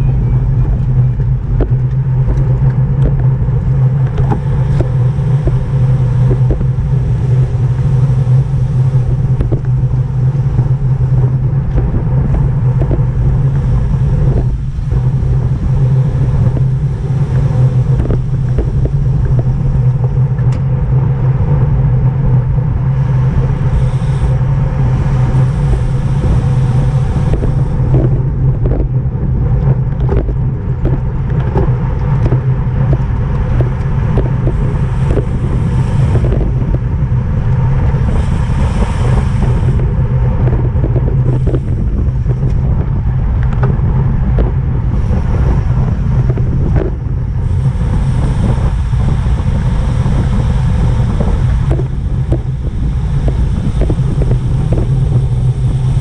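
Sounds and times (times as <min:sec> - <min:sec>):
road noise: 0:00.0 - 0:56.0
wind rush on microphone: 0:00.0 - 0:56.0.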